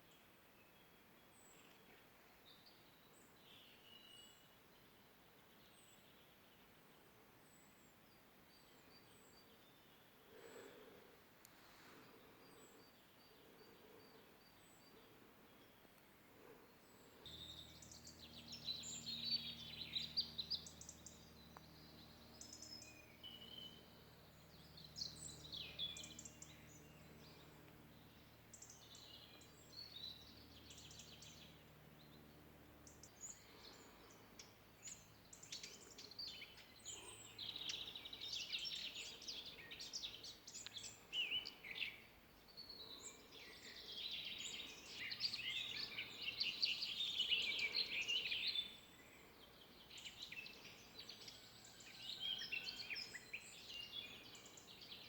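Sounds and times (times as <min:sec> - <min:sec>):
songbirds chirping and trilling: 0:00.0 - 0:55.0
faint low hum: 0:00.1 - 0:55.0.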